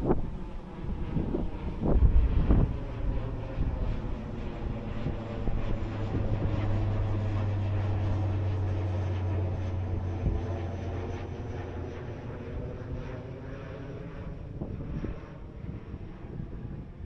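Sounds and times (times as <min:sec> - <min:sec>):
airplane engines droning overhead: 0:00.0 - 0:17.0.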